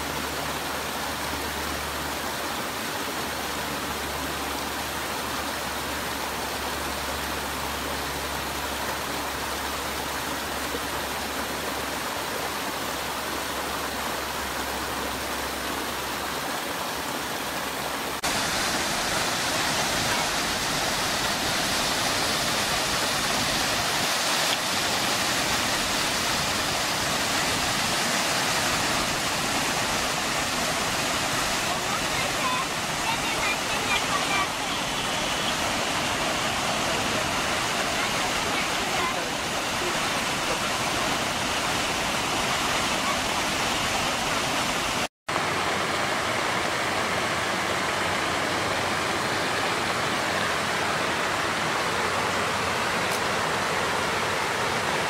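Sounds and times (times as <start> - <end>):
large waterfall rushing: 0.0 - 55.0
stream rushing over rocks: 0.0 - 55.0.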